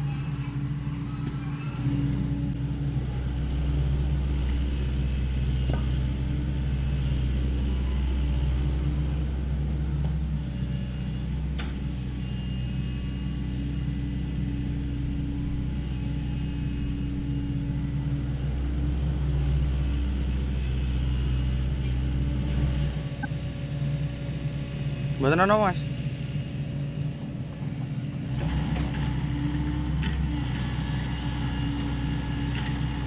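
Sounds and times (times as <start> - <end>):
excavator diesel engine running: 0.0 - 23.0, 24.0 - 33.0.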